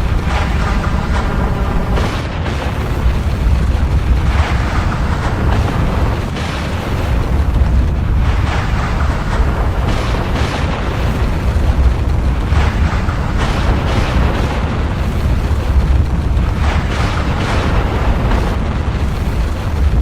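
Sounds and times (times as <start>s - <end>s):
rushing surges of noise: 0.0s - 20.0s
volcano rumbling: 0.0s - 20.0s.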